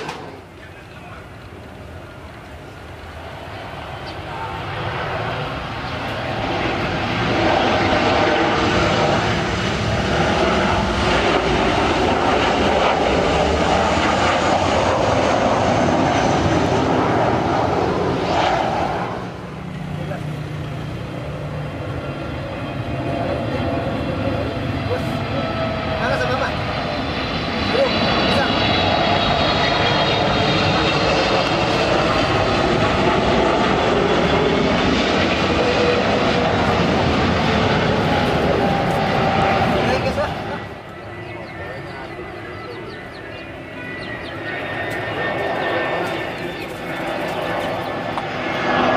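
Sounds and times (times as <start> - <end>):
jet engines roaring overhead: 0.0 - 48.9.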